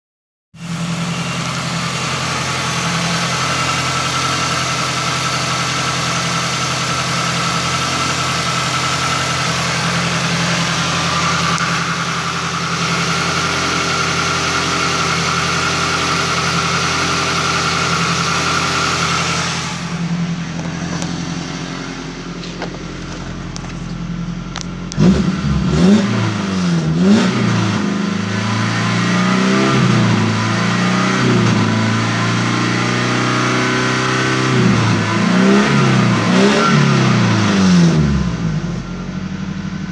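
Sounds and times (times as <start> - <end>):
car engine idling and revving: 0.6 - 39.9.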